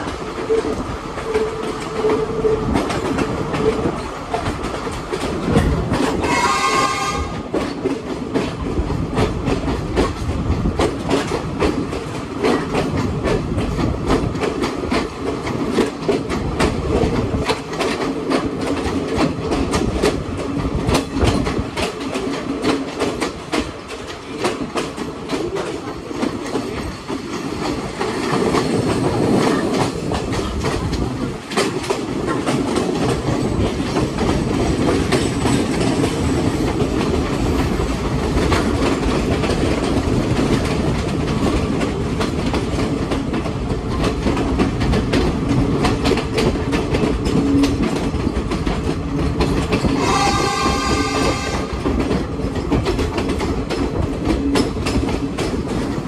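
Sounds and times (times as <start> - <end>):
train carriage rumble: 0.0 - 56.0
wheels clicking over rail joints: 0.0 - 56.0.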